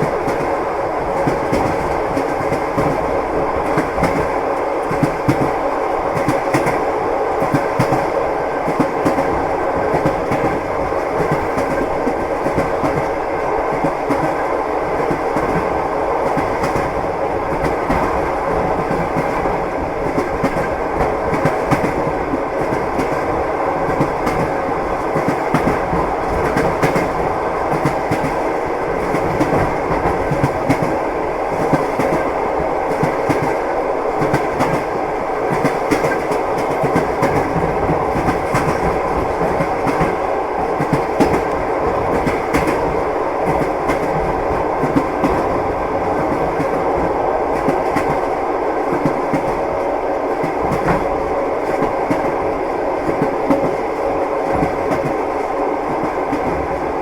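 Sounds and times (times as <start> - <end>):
train wheels clacking: 0.0 - 48.3
moving train rumble: 0.0 - 57.0.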